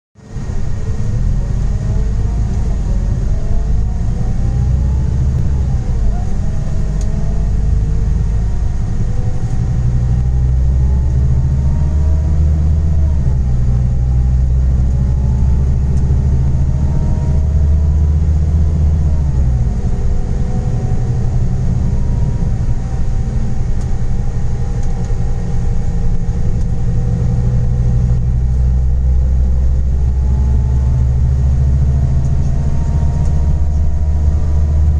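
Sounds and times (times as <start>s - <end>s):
coach engine accelerating: 0.2s - 34.9s.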